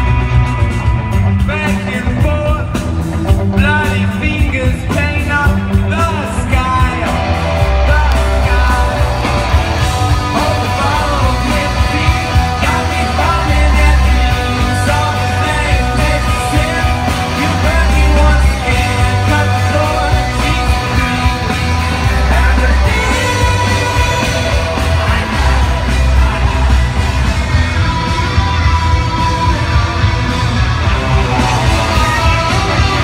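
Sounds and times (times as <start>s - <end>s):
booming bass: 0.0s - 33.0s
electric guitar: 0.0s - 33.0s
live rock band playing: 0.0s - 33.0s
man singing: 1.4s - 29.6s.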